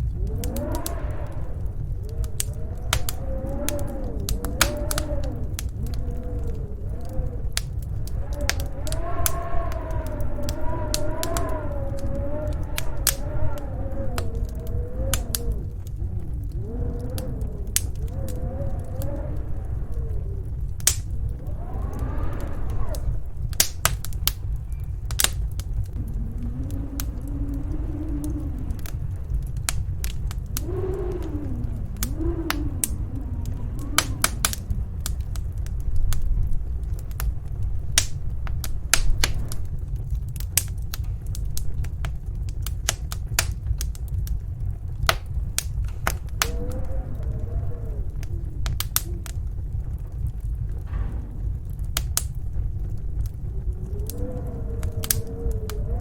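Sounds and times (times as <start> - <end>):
snowstorm wind gusts: 0.0 - 56.0
wood fire crackling and popping: 0.0 - 56.0.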